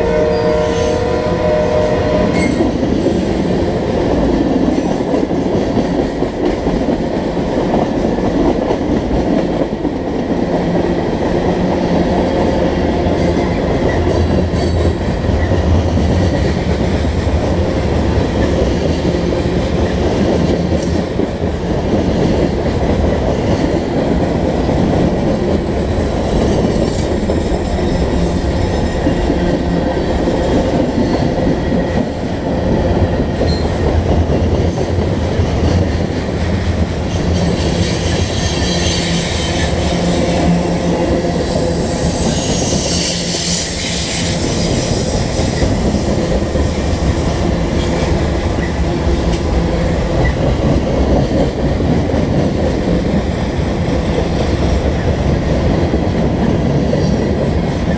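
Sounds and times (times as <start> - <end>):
freight train wheels on rails: 0.0 - 57.9
rail clicks: 0.0 - 57.9.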